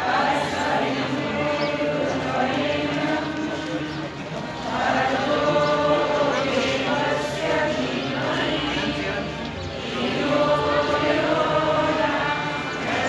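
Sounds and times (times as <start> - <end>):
crowd chatter: 0.0 - 13.0
voices chanting held notes: 0.0 - 13.0.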